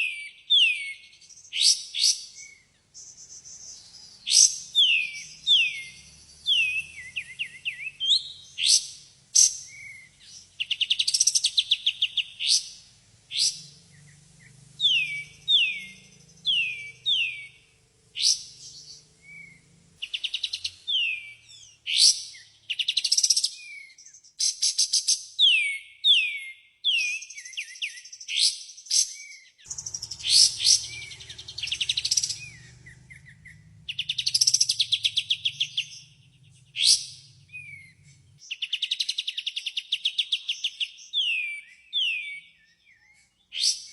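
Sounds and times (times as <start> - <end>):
songbird chirping and singing: 0.0 - 43.9.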